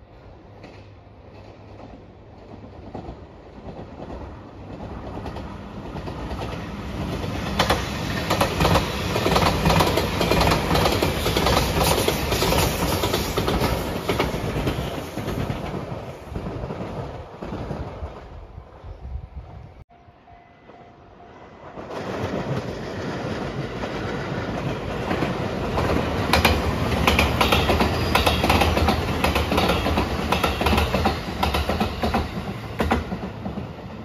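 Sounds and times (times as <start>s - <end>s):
electric train passing: 0.0s - 34.0s.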